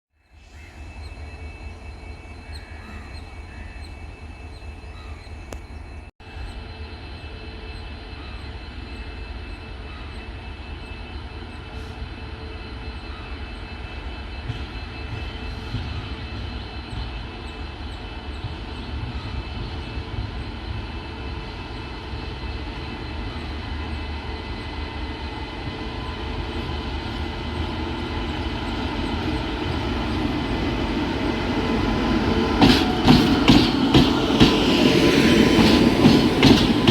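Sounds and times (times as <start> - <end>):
electric locomotive humming and whining: 0.2 - 36.9.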